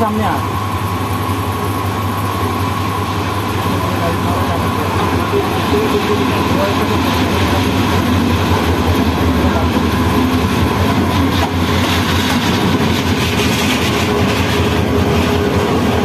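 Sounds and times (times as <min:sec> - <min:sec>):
locomotive engine drone: 0:00.0 - 0:16.0
train wheels rumbling on rails: 0:00.0 - 0:16.0.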